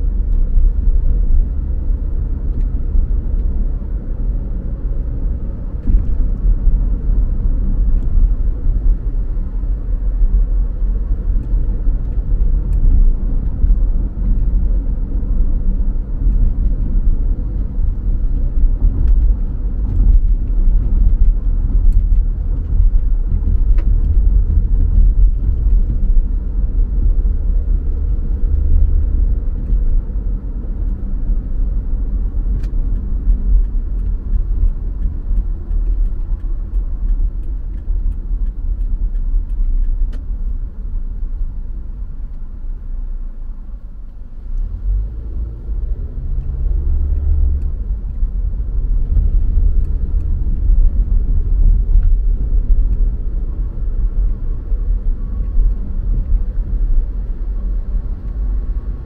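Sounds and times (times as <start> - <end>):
car driving road and engine noise: 0.0 - 59.0.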